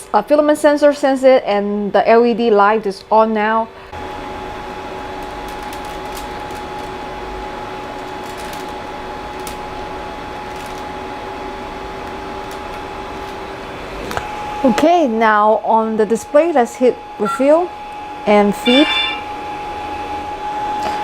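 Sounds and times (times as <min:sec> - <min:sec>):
cooling fans whirring: 0:00.0 - 0:21.0.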